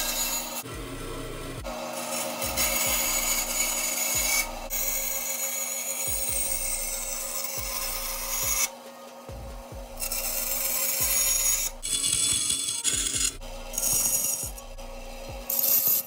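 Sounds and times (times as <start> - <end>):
band saw cutting metal: 0.0 - 16.0.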